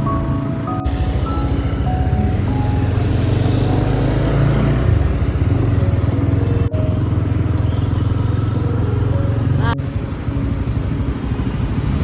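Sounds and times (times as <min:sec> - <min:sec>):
motorbike engines in traffic: 0:00.0 - 0:12.0.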